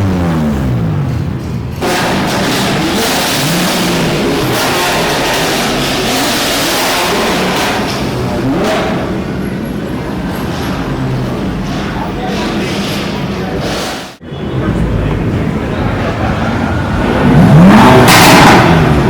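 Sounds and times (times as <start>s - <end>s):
vehicle engine revving: 0.0s - 14.2s, 15.2s - 19.0s.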